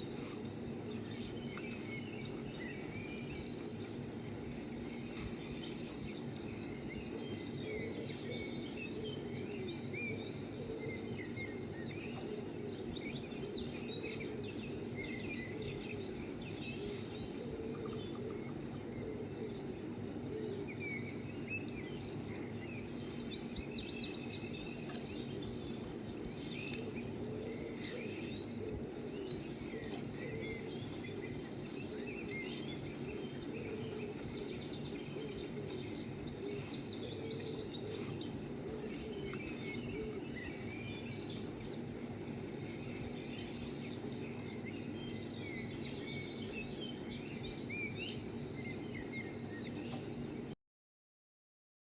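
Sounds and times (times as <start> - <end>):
low murmur: 0.0 - 50.2
birds chirping: 0.0 - 50.6.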